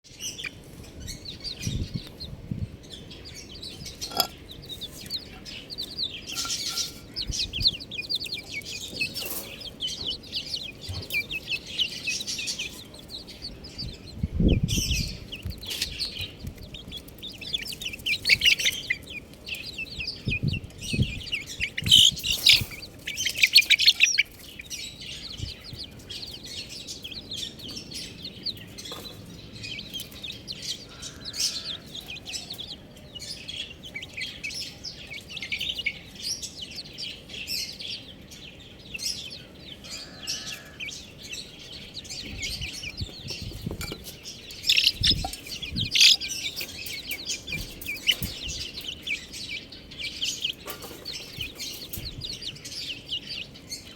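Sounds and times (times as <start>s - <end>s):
baby chicks cheeping: 0.0s - 53.9s.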